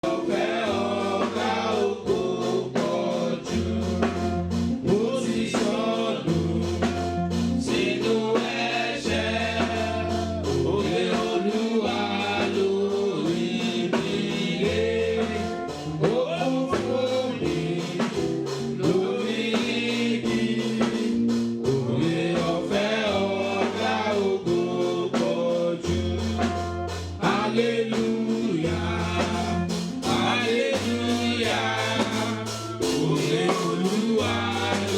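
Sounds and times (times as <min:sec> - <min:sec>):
instrumental accompaniment: 0:00.0 - 0:34.9
voices singing gospel song: 0:00.0 - 0:34.9.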